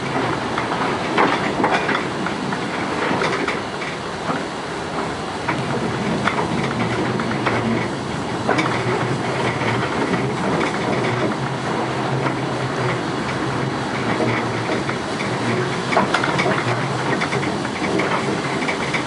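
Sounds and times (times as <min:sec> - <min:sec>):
train running gear rumble: 0:00.0 - 0:19.0
wheels clicking over rail joints: 0:00.0 - 0:19.0.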